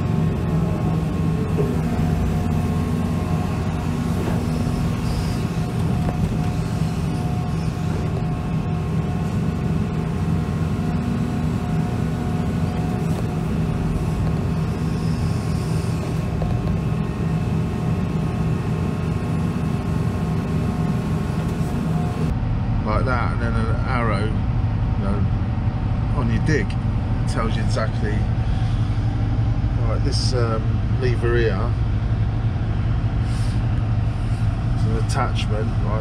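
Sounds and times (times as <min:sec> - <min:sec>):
excavator diesel engine hum: 0:00.0 - 0:36.0
faint steady hydraulic whine: 0:00.0 - 0:36.0.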